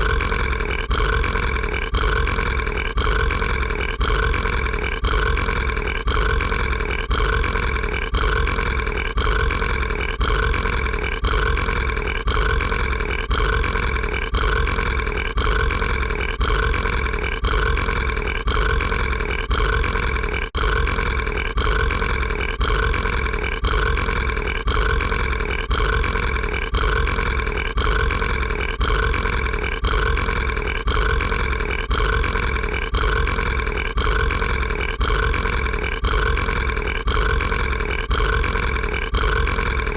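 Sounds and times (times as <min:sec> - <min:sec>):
cartoon character burping: 0:00.0 - 0:39.9.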